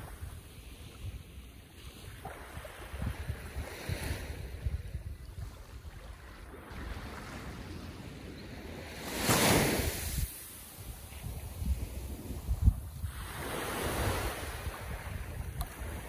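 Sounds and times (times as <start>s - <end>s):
ocean waves lapping on shore: 0.0s - 16.0s.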